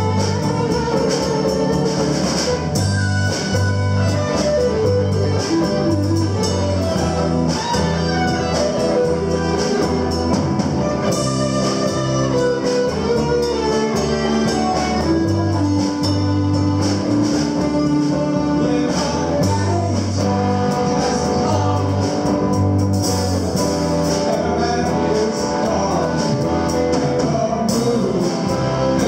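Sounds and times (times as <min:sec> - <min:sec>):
drum kit cymbals: 0:00.0 - 0:29.0
guitar melody: 0:00.0 - 0:29.0
repeating bass line: 0:00.0 - 0:29.0.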